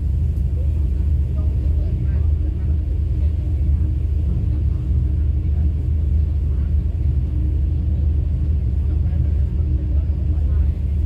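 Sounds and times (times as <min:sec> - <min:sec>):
faint steady hum: 0:00.0 - 0:11.0
train rumble: 0:00.0 - 0:11.0.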